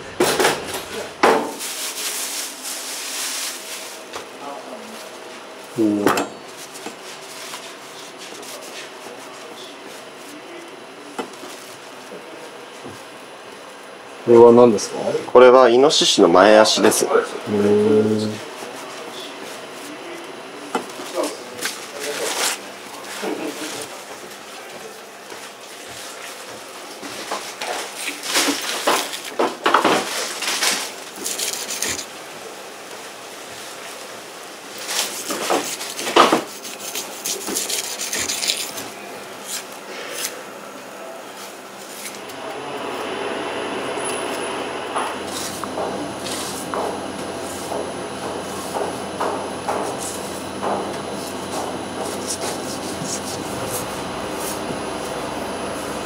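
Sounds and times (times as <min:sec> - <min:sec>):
ventilation fan hum: 0:00.0 - 0:56.0.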